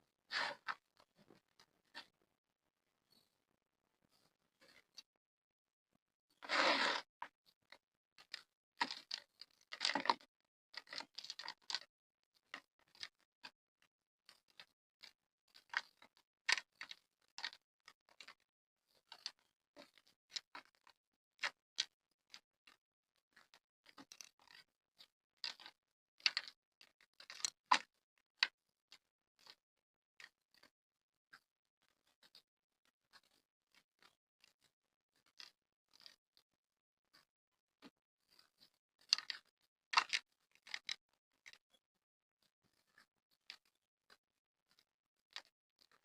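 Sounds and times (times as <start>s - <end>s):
small crackles and ticks: 6.4s - 29.6s, 30.2s - 41.8s, 42.4s - 46.0s.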